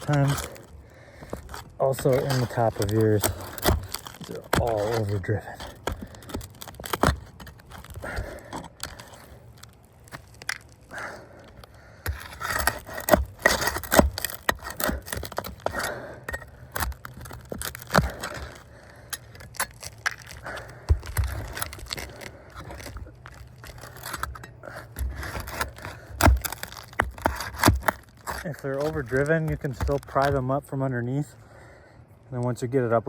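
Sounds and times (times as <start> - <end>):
pry bar scraping shingles: 0.0 - 31.0.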